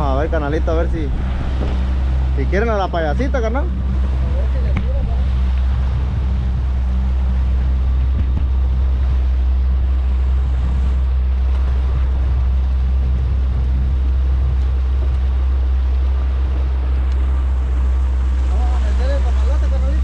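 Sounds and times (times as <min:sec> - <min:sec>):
outboard motor running: 0:00.0 - 0:20.0
rush of boat wake: 0:00.0 - 0:20.0
wind: 0:00.0 - 0:20.0.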